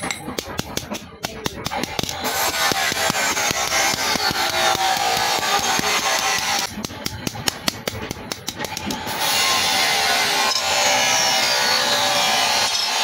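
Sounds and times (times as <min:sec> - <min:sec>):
power tool running: 0:01.6 - 0:07.2, 0:08.2 - 0:13.0.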